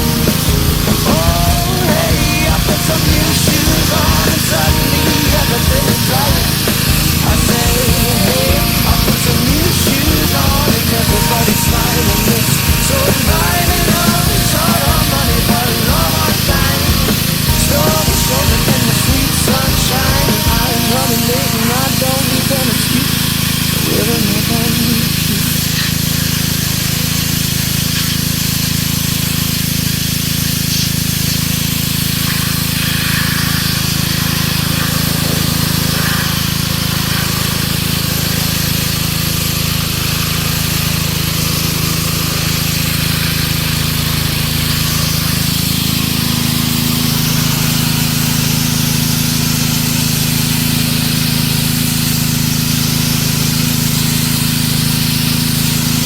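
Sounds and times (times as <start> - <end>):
pressure washer engine hum: 0.0 - 56.0
water spray hissing: 0.0 - 56.0.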